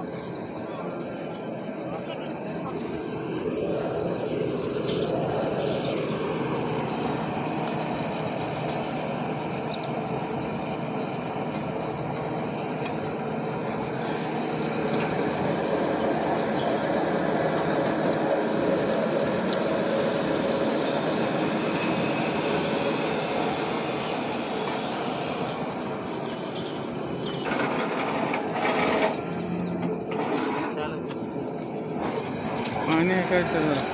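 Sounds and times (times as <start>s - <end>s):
truck engine and hydraulic pump: 0.0s - 33.9s.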